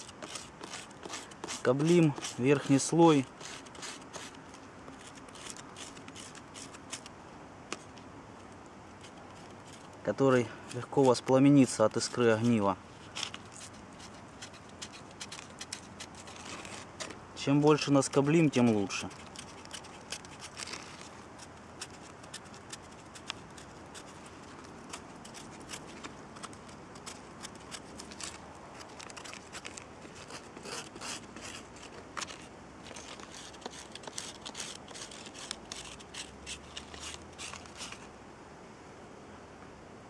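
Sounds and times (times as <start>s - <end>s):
knife scraping bark: 0.0s - 7.1s, 9.0s - 38.1s.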